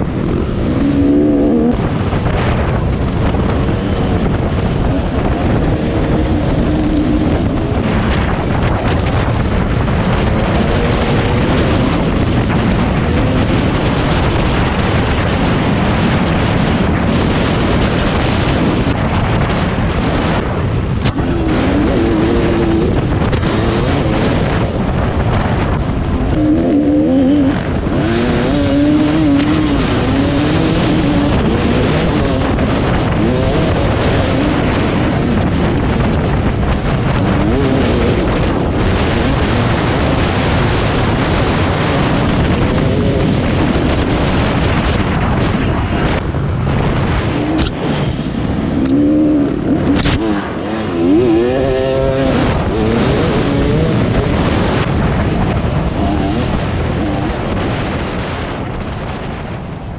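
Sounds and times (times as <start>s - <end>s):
dirt bike engine revving: 0.0s - 58.8s.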